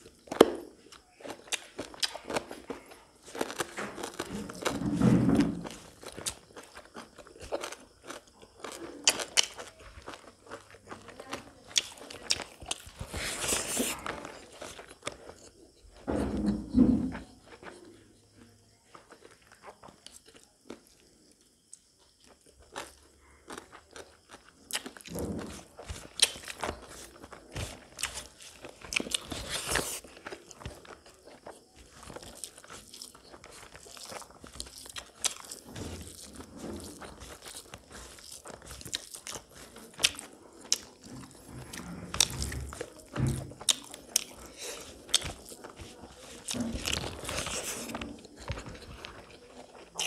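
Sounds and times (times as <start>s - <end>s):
chewing with wet smacks and crunches: 0.0s - 4.9s, 5.5s - 16.0s, 17.3s - 50.0s.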